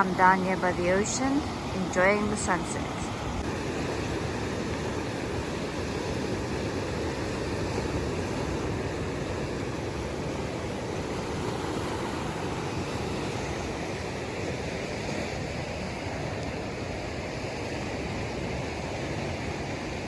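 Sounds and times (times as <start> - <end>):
ocean waves washing: 0.0 - 20.0.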